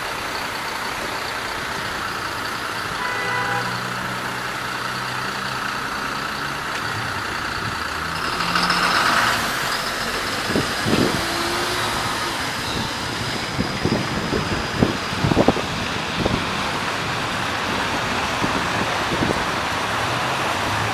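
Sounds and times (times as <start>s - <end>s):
tyres hissing on wet road: 0.0s - 20.9s.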